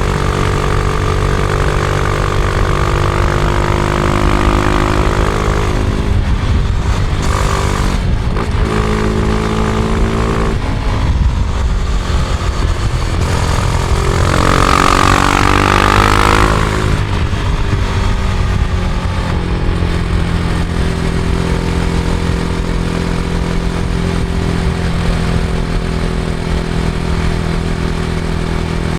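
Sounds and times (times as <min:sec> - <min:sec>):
motorcycle engine revving: 0:00.0 - 0:28.9
wind noise: 0:00.0 - 0:28.9.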